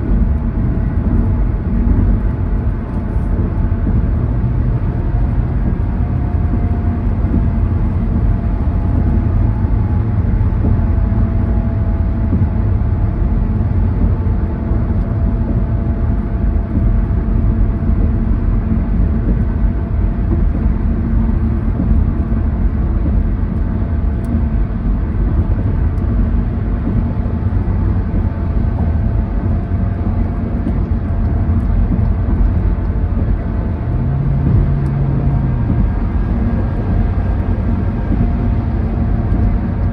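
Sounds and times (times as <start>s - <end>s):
car road noise rumble: 0.0s - 39.9s
deeper hum: 0.0s - 39.9s
faint steady hums: 0.0s - 39.9s.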